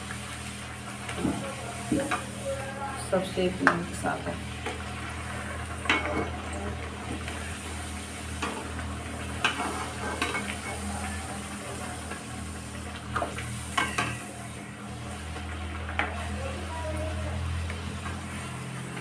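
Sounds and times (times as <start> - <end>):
deep-frying sizzle in oil: 0.0 - 19.0.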